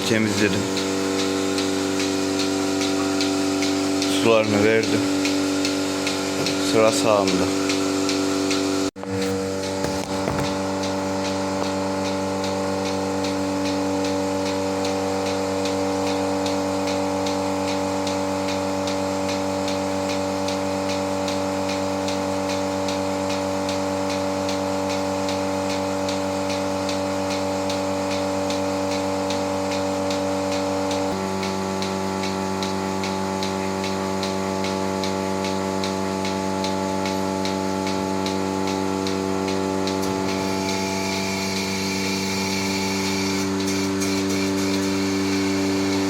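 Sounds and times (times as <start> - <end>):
rapid pulsator ticking: 0.0 - 8.6, 10.5 - 40.1
vacuum pump motor hum: 0.0 - 46.0.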